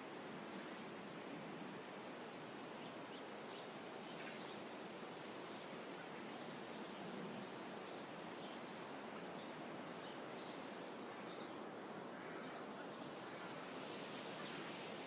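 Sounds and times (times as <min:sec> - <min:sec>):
outdoor ambience by water: 0:00.0 - 0:15.0
distant small birds calling: 0:01.6 - 0:15.0.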